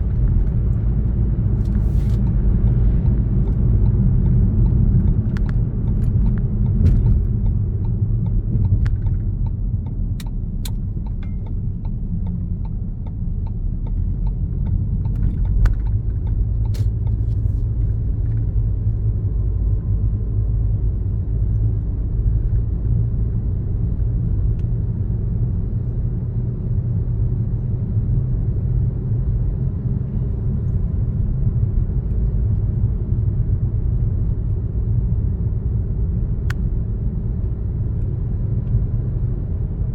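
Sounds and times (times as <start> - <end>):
car tyres and engine rumbling: 0.0 - 39.9.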